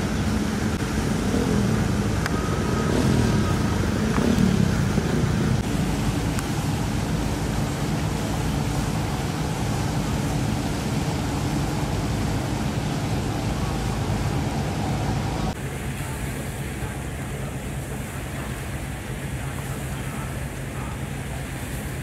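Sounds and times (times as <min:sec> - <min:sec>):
engine drone: 0:00.0 - 0:22.0
waves: 0:00.0 - 0:22.0
wind: 0:00.0 - 0:22.0.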